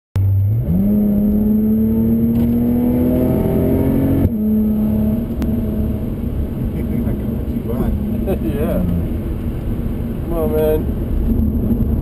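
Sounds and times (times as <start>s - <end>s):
car engine accelerating: 0.2s - 12.0s.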